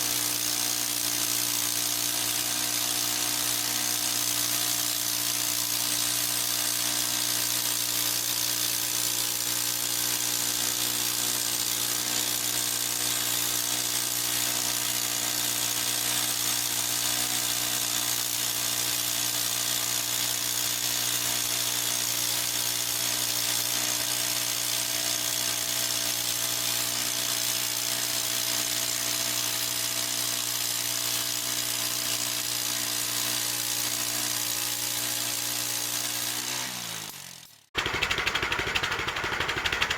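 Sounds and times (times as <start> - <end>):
bandsaw mill engine running: 0.0 - 39.9.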